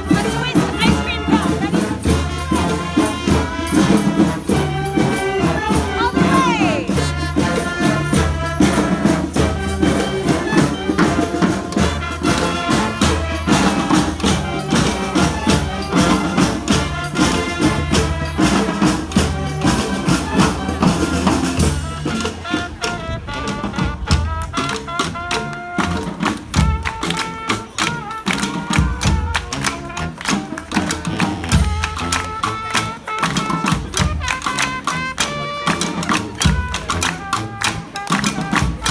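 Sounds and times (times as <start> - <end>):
brass band playing salsa: 0.0 - 38.9
drums and hand percussion: 0.0 - 38.9.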